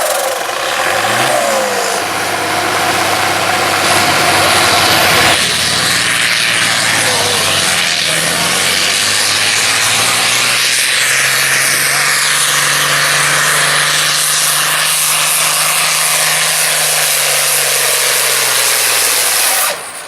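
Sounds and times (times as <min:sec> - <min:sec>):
tractor engine at high revs: 0:00.0 - 0:20.0.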